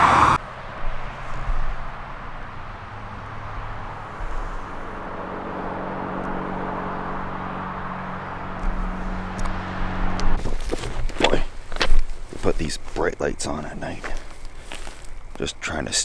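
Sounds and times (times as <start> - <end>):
road traffic hiss: 0.0 - 16.0
vehicle engine hum: 0.0 - 16.0.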